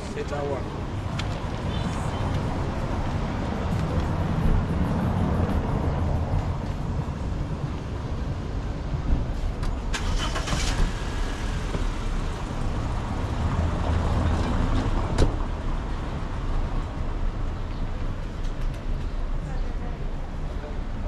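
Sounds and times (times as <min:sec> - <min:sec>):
cars passing with low rumble: 0:00.0 - 0:21.0.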